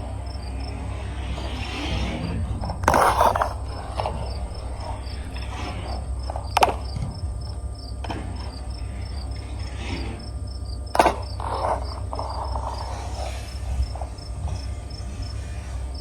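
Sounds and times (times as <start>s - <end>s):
crickets chirping: 0.0s - 16.0s
low hum: 0.0s - 16.0s.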